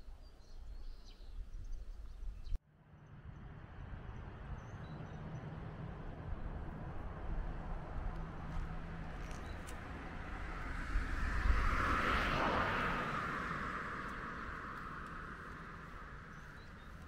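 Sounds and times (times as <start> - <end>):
vehicle passing by: 3.0 - 17.0.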